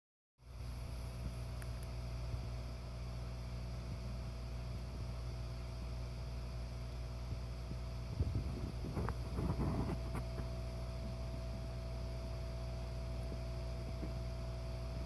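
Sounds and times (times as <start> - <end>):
air pump humming: 0.4 - 15.0.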